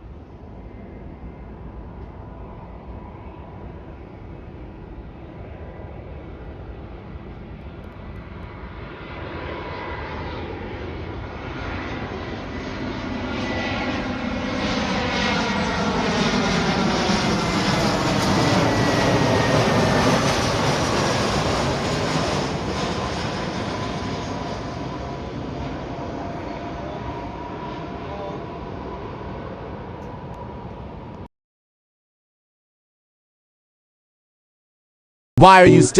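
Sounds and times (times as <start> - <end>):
jet airliner flying past: 0.0 - 31.3.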